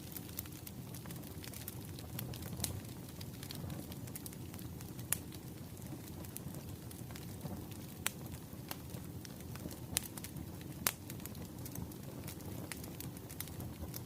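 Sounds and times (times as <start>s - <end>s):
bonfire crackling: 0.0s - 14.0s
sharp fire pops: 0.1s - 14.0s.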